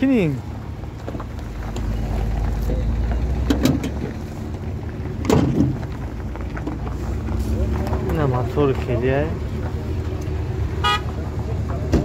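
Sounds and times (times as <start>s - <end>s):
steady low rumble: 0.1s - 12.0s.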